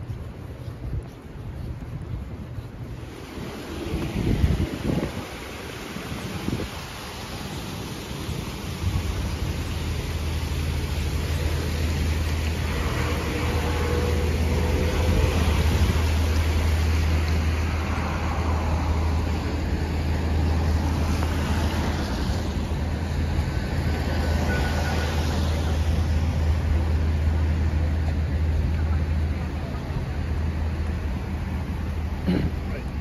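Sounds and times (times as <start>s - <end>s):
cars passing on wet road: 0.0s - 33.0s.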